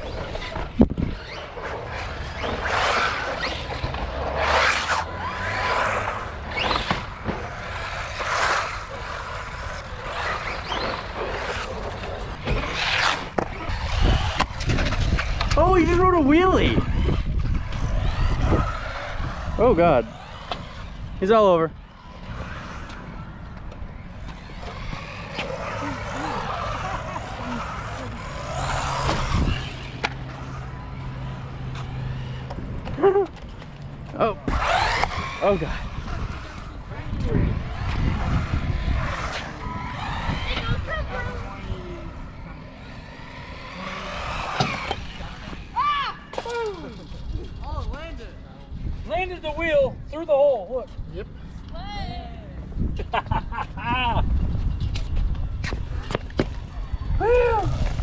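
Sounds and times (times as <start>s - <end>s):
rc car motor whining: 0.0s - 48.1s.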